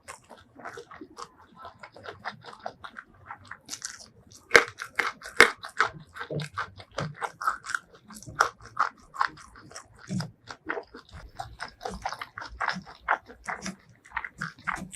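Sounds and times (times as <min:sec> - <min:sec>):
chewing and crunching fried food: 0:00.0 - 0:14.9.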